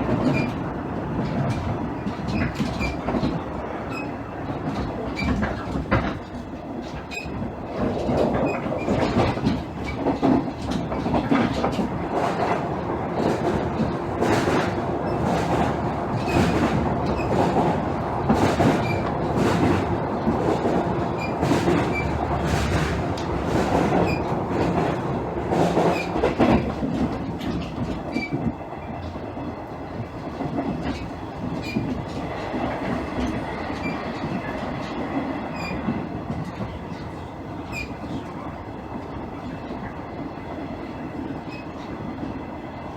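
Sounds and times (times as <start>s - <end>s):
wheels clicking over rail joints: 0.1s - 39.9s.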